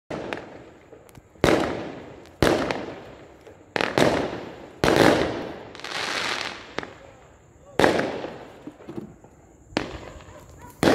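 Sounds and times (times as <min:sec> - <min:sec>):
fireworks bursting: 0:00.1 - 0:10.9.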